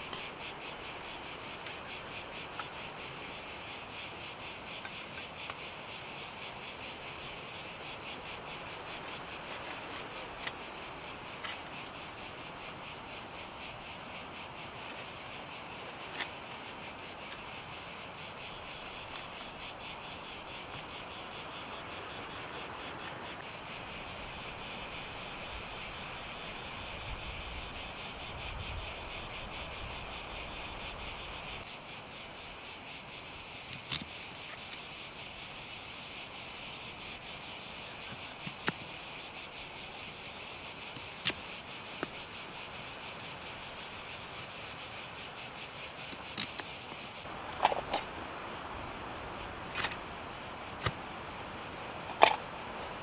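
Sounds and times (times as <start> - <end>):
cicadas chirring: 0.0 - 53.0.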